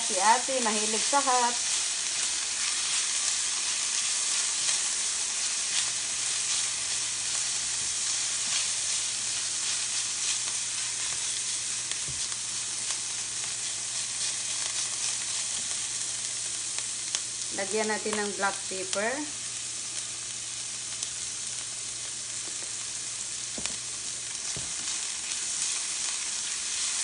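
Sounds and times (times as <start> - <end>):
vegetables sizzling in a skillet: 0.0 - 27.0.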